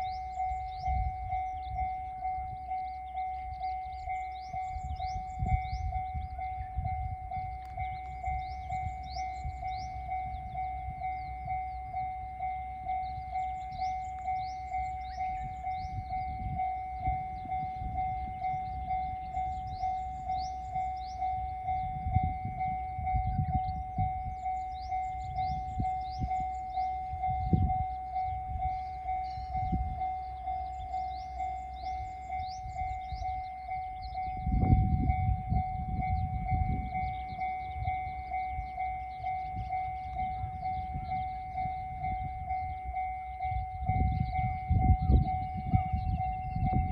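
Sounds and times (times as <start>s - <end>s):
level crossing alarm bell: 0.0s - 46.9s.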